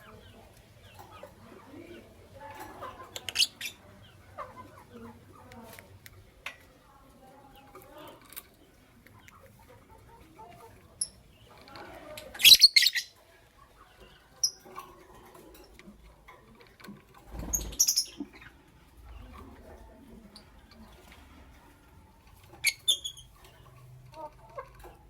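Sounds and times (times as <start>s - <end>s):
lovebirds chirping: 0.0s - 5.7s, 7.5s - 15.0s, 17.3s - 25.0s.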